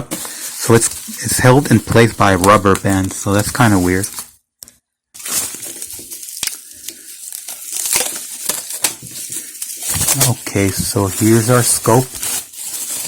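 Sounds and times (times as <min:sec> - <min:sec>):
plastic and cardboard crinkling: 0:00.0 - 0:13.0.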